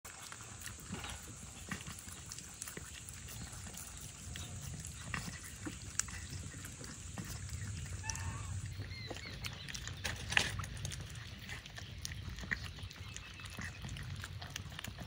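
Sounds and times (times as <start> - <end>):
animals chewing and lapping: 0.0 - 15.0.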